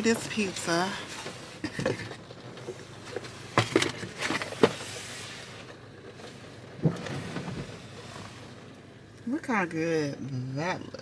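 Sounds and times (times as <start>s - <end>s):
faint car cabin hum: 0.0s - 11.0s.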